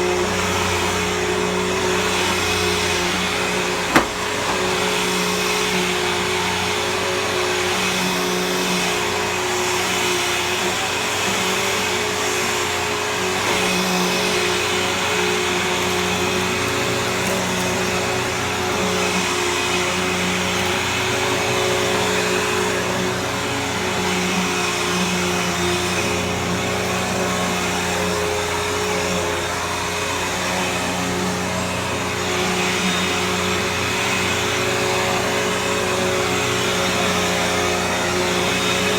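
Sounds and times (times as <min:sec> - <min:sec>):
upright vacuum running on carpet: 0:00.0 - 0:38.9.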